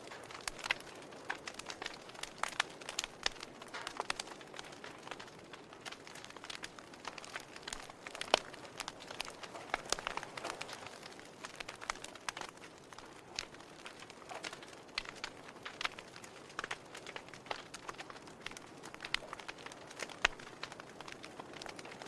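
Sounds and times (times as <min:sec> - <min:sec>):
fire snaps and pops: 0:00.0 - 0:22.0
wood fire crackling: 0:00.0 - 0:22.0.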